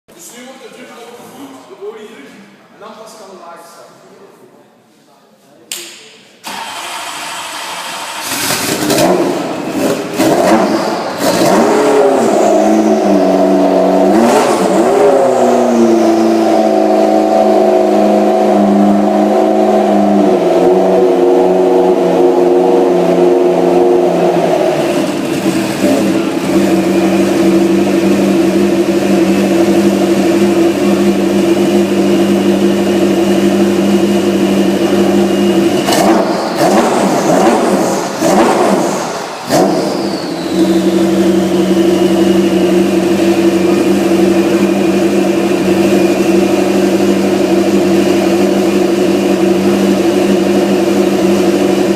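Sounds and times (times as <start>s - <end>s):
race car engine revving and idling: 6.4s - 51.9s.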